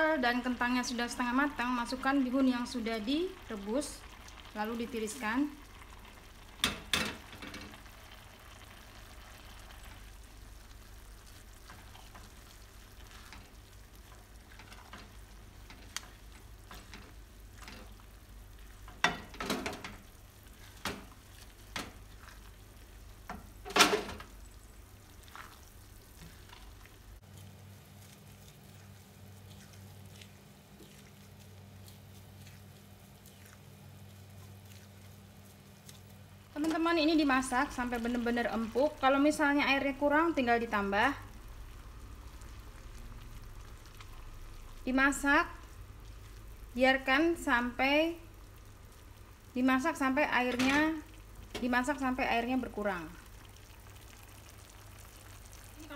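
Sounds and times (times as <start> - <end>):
faint simmering: 0.0 - 55.9.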